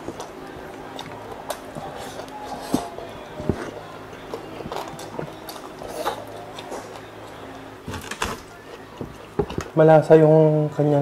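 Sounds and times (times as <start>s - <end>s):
person chewing food: 0.0s - 7.4s, 8.0s - 9.7s.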